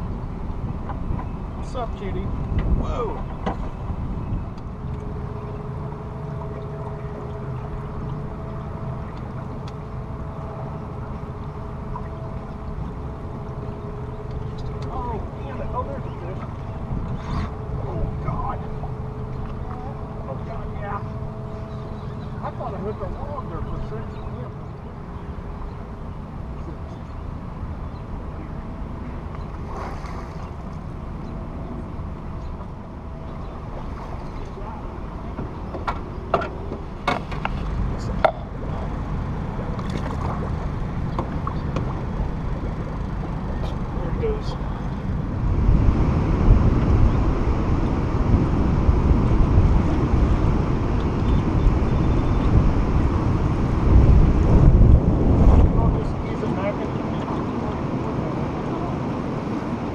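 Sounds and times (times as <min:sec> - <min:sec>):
faint steady hum: 0:00.0 - 0:59.9
moving water around boat: 0:00.0 - 0:59.9
wind rumble: 0:00.0 - 0:59.9.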